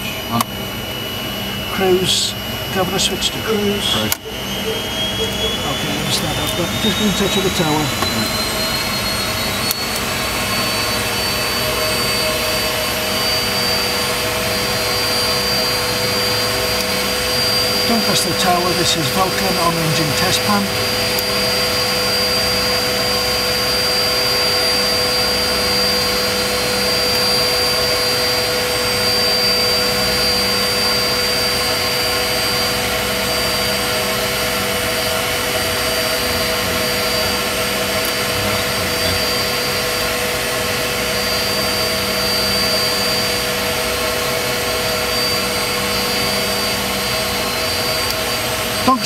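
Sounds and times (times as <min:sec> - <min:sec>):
equipment whine and hum: 0:00.0 - 0:49.0.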